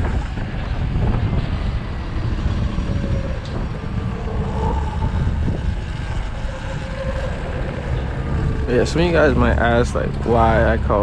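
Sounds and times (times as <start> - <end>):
road and traffic noise: 0.0 - 11.0
wind rushing over microphone: 0.0 - 11.0.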